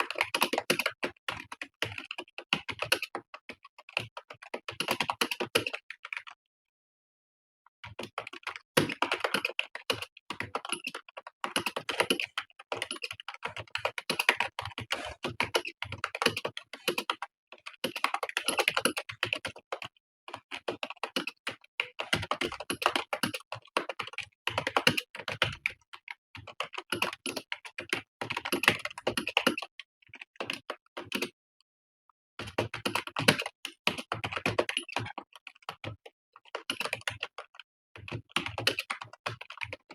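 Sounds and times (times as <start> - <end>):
fast typing on keyboard: 0.0 - 6.4, 7.8 - 31.4, 32.4 - 39.9.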